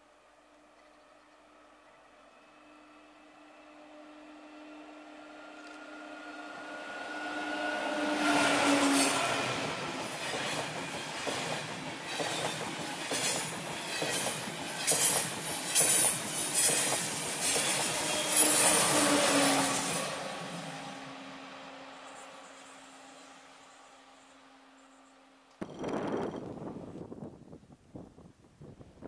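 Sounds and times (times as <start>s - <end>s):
high-speed train passing: 0.1s - 25.8s.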